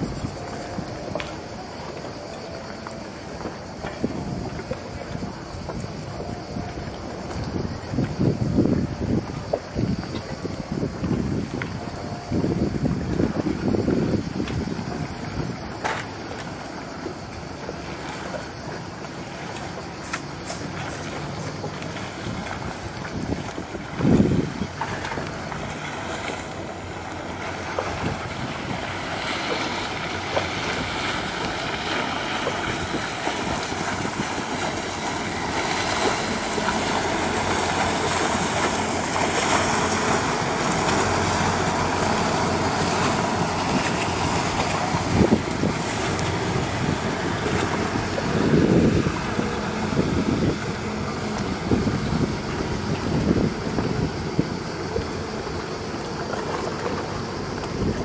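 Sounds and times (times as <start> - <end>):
wind buffeting microphone: 0.0 - 1.8, 2.7 - 58.0
boat engines running: 0.0 - 58.0
water washing from wake: 0.0 - 58.0.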